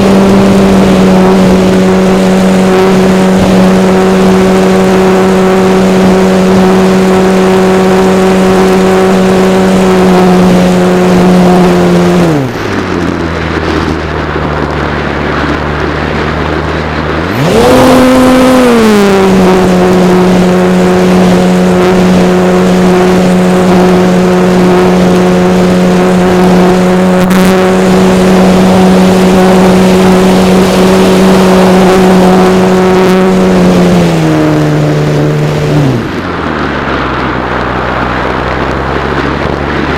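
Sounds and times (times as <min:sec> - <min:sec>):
model airplane engine buzzing: 0:00.0 - 0:39.9.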